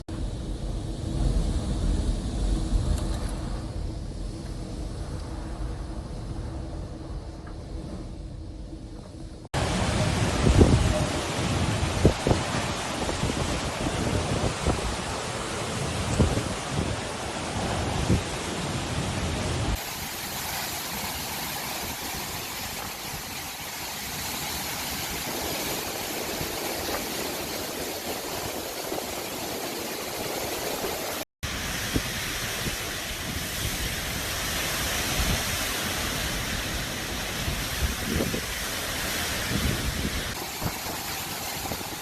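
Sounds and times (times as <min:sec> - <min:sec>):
heavy rain: 0:00.0 - 0:42.0
hurricane wind: 0:00.0 - 0:42.0.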